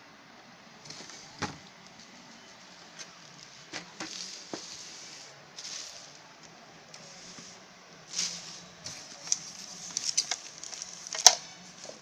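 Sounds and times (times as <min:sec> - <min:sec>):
plastic packaging rustling: 0:00.9 - 0:12.0.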